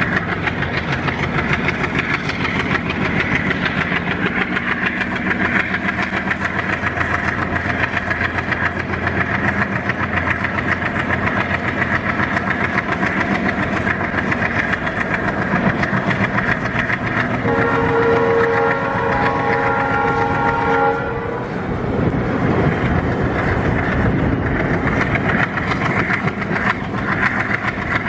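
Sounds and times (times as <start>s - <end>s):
diesel locomotive engine pulsing: 0.0s - 28.0s.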